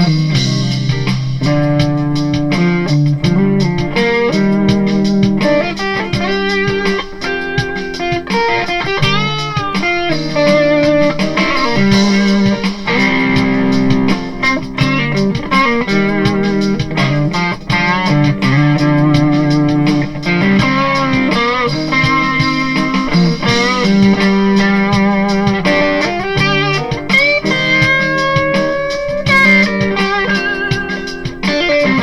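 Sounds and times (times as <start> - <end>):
electric guitar lead lines: 0.0 - 32.0.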